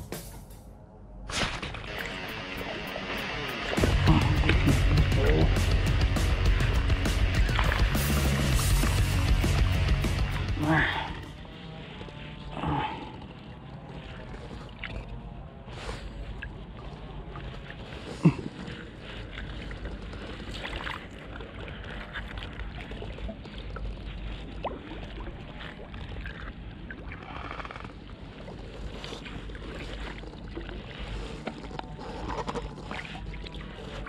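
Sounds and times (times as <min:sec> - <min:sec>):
water splashing around a boat: 0:01.3 - 0:34.0.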